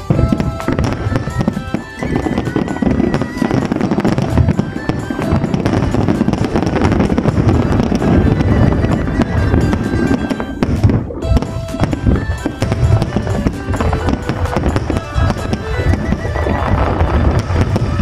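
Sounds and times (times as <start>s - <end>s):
fireworks exploding: 0.0s - 18.0s
music playing: 0.0s - 18.0s.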